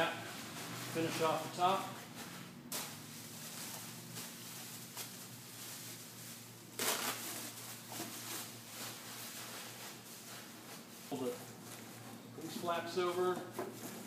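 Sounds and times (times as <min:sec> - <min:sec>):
bubble wrap crinkling: 0:00.0 - 0:12.2.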